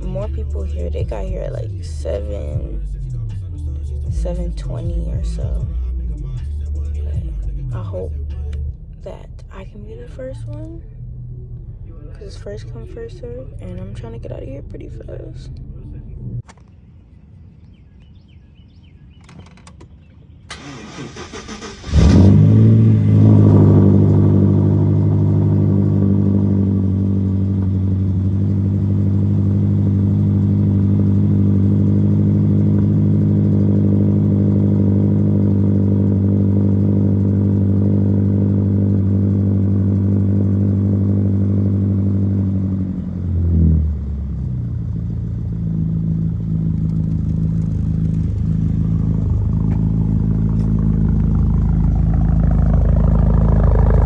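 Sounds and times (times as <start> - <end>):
car engine idling: 0.0 - 16.8, 17.8 - 54.0.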